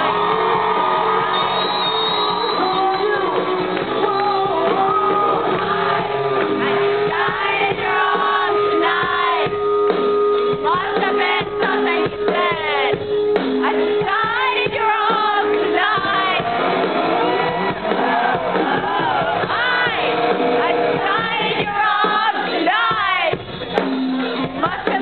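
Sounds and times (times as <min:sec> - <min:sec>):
audience shouting and singing along: 0:00.0 - 0:25.0
live rock band: 0:00.0 - 0:25.0.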